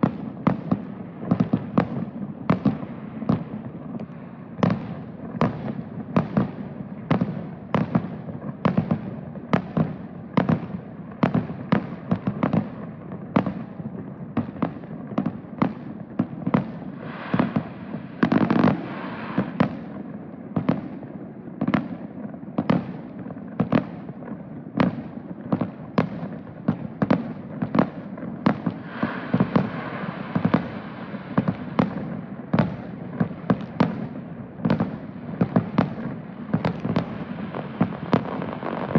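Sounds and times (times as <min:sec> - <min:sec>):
fireworks booming: 0:00.0 - 0:38.9.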